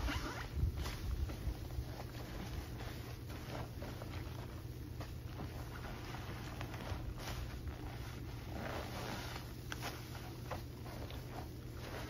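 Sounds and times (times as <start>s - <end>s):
sponges squelching in suds: 0.0s - 12.0s
steady low hum: 0.0s - 12.0s.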